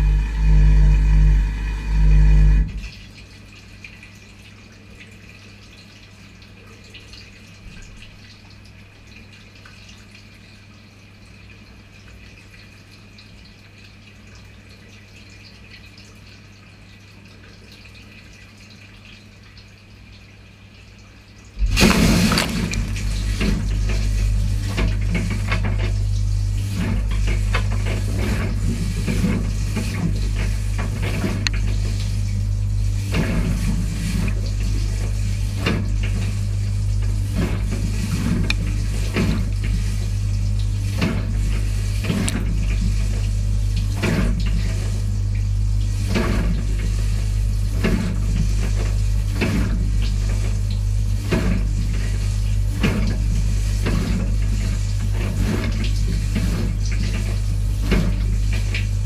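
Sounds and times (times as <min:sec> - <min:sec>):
dishwasher motor hum: 0:00.0 - 0:59.0
water splashing against racks: 0:00.0 - 0:59.0.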